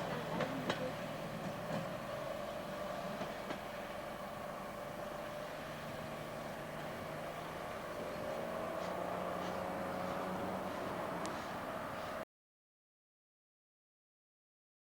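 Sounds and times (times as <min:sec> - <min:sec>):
steam engine hissing: 0:00.0 - 0:12.2.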